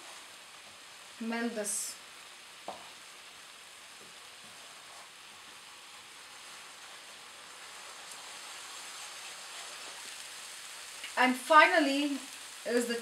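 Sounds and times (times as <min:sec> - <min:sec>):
paste sizzling in a frying pan: 0:00.0 - 0:13.0.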